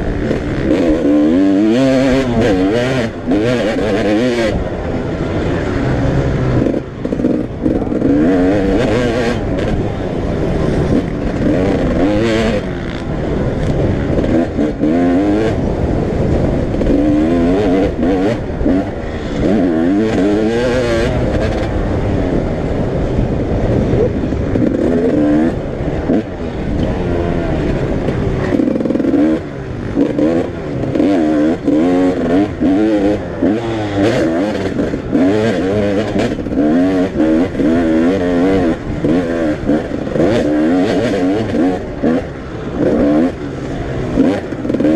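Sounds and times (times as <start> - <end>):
motocross bikes revving: 0.0 - 44.9.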